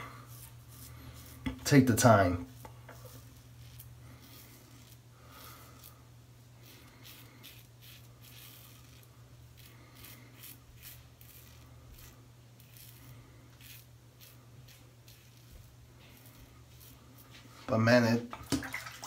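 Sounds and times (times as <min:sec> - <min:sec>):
razor scraping lathered stubble: 0:00.2 - 0:17.6.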